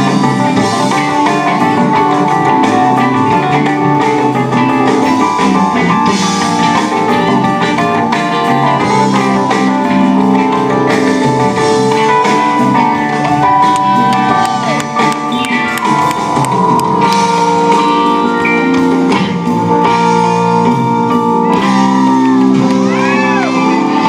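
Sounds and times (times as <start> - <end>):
drums: 0.0 - 24.0
electric guitar: 0.0 - 24.0
keyboard: 0.0 - 24.0.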